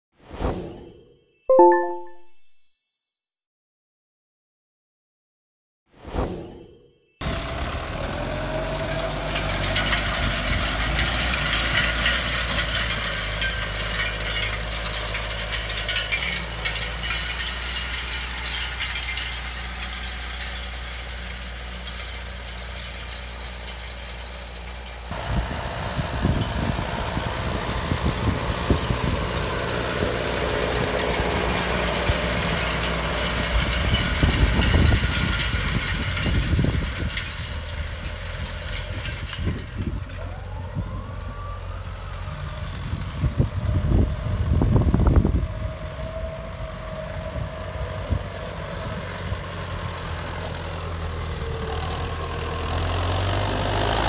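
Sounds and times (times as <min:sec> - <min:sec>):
tractor diesel engine under load: 0:07.2 - 0:54.0.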